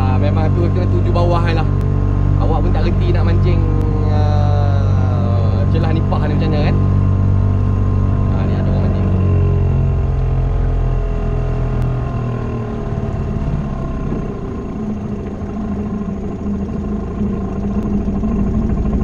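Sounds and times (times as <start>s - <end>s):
outboard motor humming: 0.0s - 19.0s.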